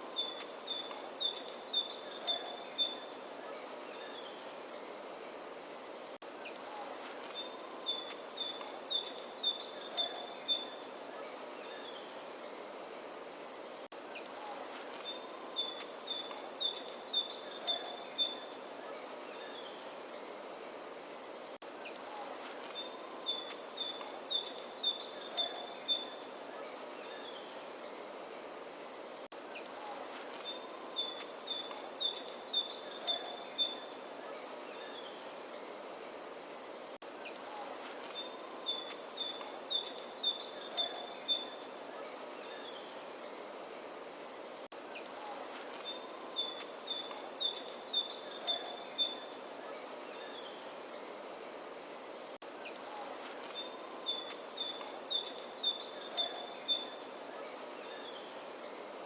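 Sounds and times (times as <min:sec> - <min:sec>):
faint background hiss: 0:00.0 - 0:59.0
songbird singing: 0:00.0 - 0:59.0.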